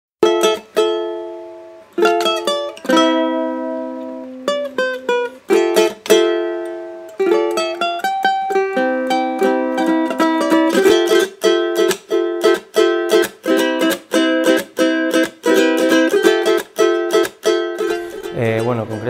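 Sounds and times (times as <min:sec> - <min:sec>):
plucked string chords: 0:00.2 - 0:19.0.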